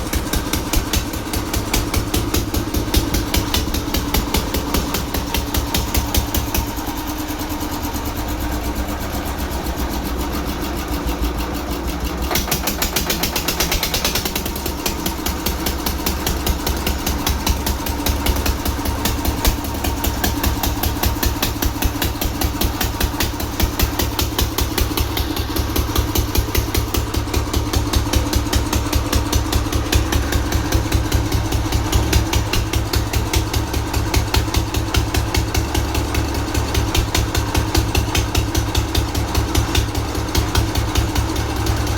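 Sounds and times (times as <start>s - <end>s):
old diesel engine knocking: 0.0s - 41.9s.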